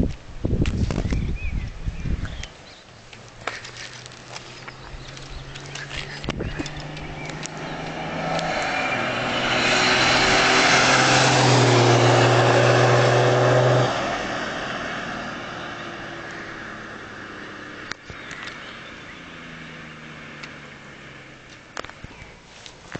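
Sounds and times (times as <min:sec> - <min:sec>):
diesel engine at full throttle: 0:04.0 - 0:22.4.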